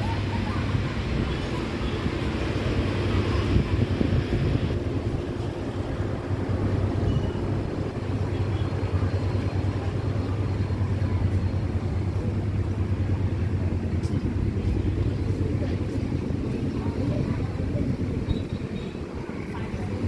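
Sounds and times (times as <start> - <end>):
ferry engines humming: 0.0 - 20.0.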